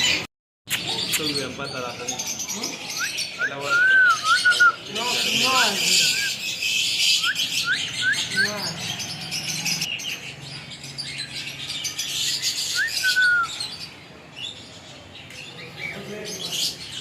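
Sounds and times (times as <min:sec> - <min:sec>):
parrot chirping: 0:00.0 - 0:14.7.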